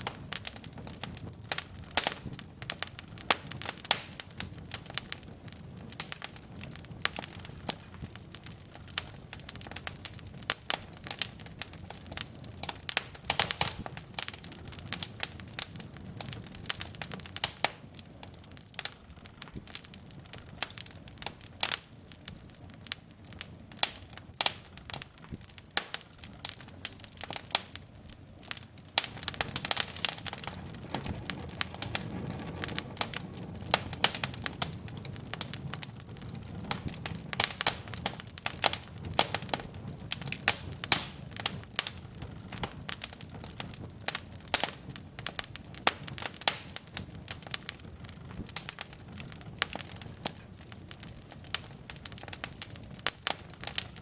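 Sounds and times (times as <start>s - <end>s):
logs crackling and popping: 0.0s - 54.0s
low rush of flame: 0.0s - 54.0s.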